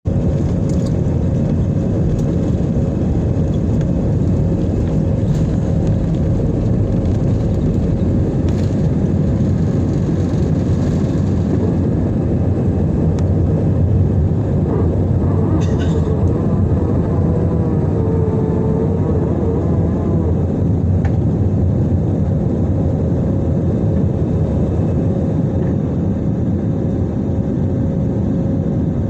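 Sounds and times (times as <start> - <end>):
airliner cabin engine drone: 0.0 - 29.0.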